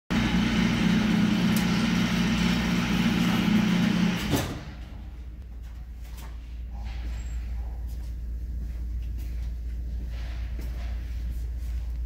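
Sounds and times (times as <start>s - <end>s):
steady mechanical hum: 0.1s - 12.0s.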